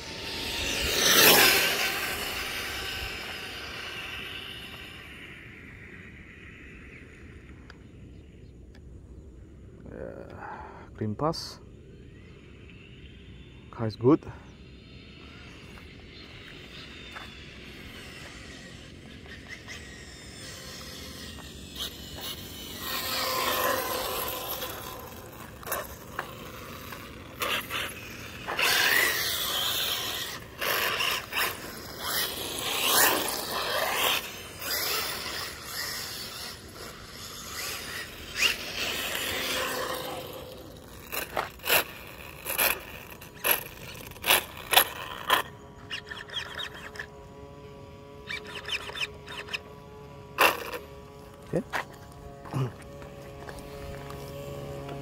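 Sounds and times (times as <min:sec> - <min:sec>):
rc car motor and tyres whining: 0:00.0 - 0:55.0.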